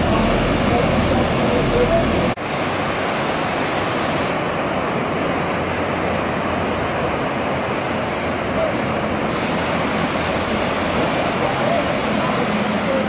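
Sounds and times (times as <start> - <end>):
rapids rushing: 0.0 - 13.0.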